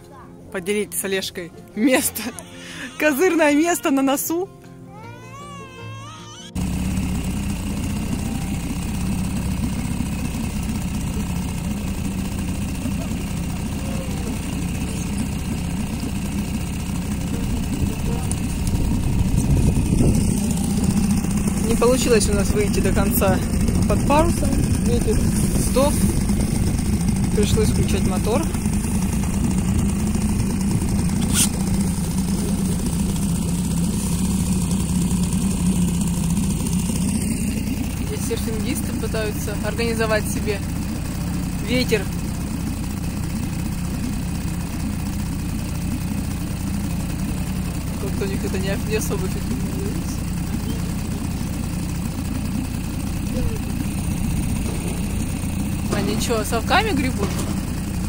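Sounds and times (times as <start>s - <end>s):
boat engine rumbling: 0.0s - 58.0s
outboard motor running: 0.6s - 58.0s.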